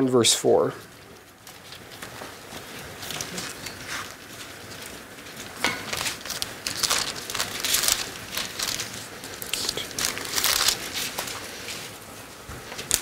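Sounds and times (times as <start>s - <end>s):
thin pages rustling: 1.2s - 13.0s.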